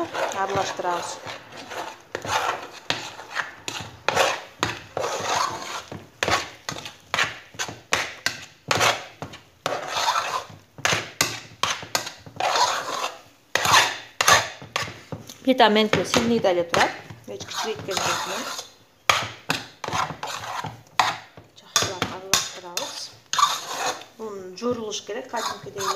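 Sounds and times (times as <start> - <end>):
spoon scraping a saucepan: 0.0 - 15.3, 15.9 - 25.9.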